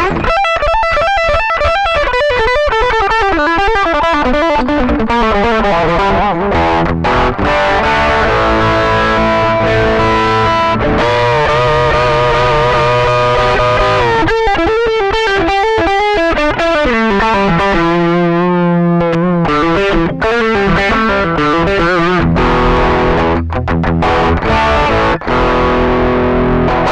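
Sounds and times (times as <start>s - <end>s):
distorted electric guitar: 0.0s - 26.9s.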